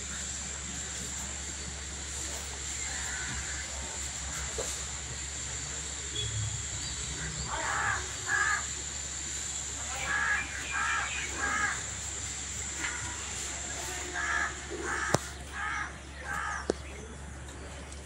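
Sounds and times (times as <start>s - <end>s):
bird calling: 0.0s - 17.1s
background hiss and hum: 0.0s - 18.0s.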